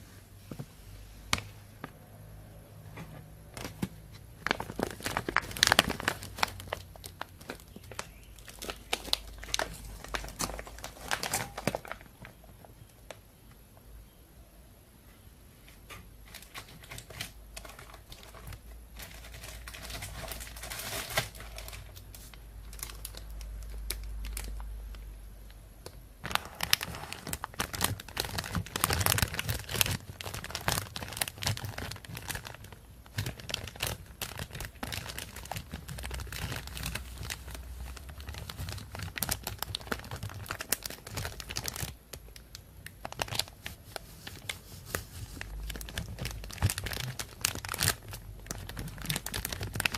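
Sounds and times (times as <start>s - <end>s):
plastic bag crinkling: 3.6s - 13.2s, 16.2s - 25.0s, 26.2s - 49.9s.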